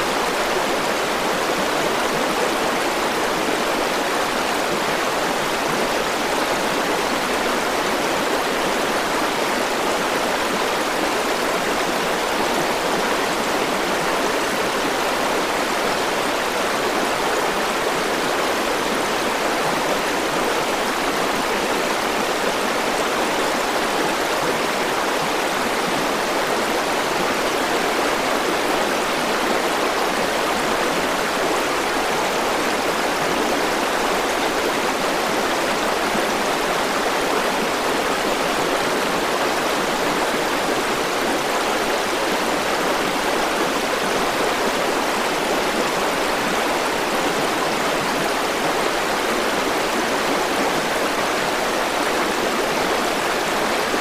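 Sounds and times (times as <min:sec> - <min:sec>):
river flowing over rocks: 0:00.0 - 0:54.0.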